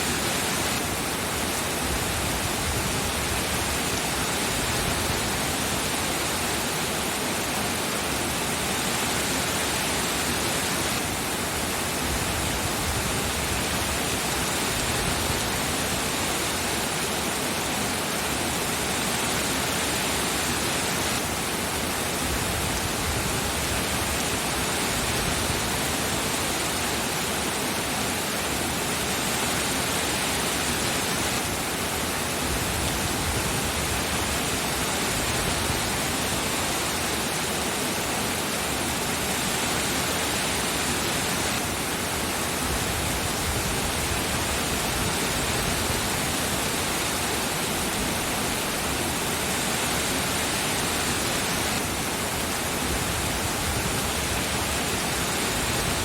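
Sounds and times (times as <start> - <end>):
dense rain hiss: 0.0 - 56.0.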